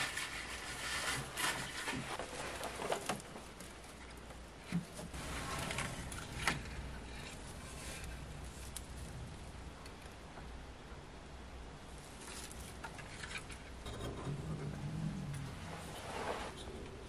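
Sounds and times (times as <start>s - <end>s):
dry twigs rustling and crackling: 0.0s - 10.2s, 11.9s - 16.1s.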